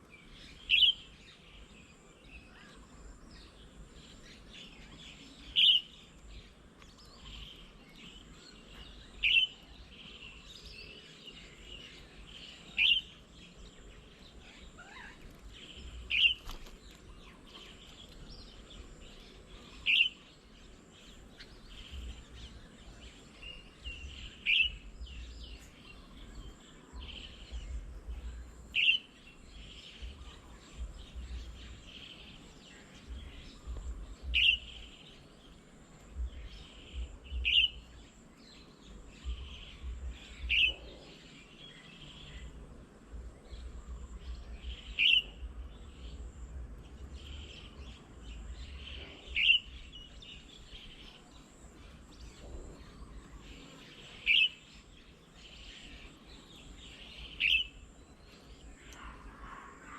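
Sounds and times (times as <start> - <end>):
soft bird chirping: 0.0 - 59.9.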